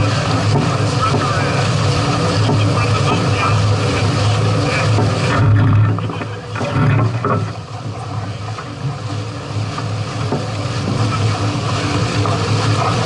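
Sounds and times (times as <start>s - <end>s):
water sounds: 0.0s - 13.0s.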